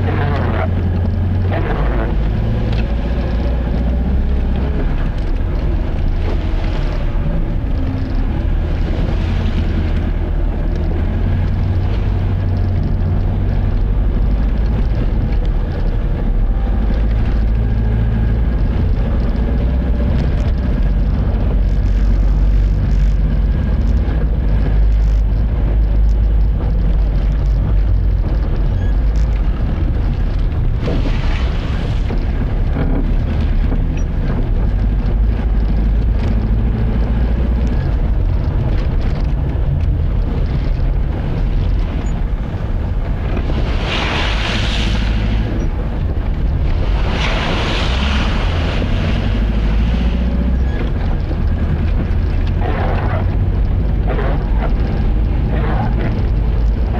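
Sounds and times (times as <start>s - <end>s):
vehicle engine and road rumble: 0.0s - 56.9s.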